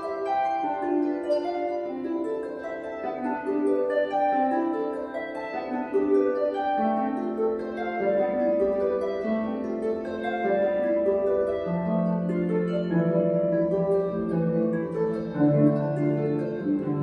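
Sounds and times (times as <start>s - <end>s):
harp plucked notes: 0.0s - 17.0s.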